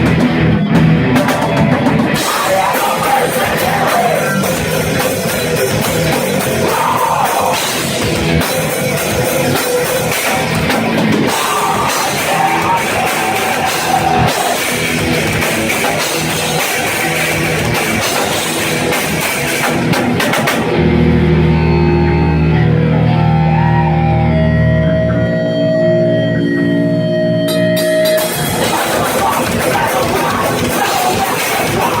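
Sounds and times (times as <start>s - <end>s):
pounding drum kit: 0.0s - 22.6s, 27.8s - 32.0s
distorted guitars: 0.0s - 32.0s
heavy rock band playing: 0.0s - 32.0s.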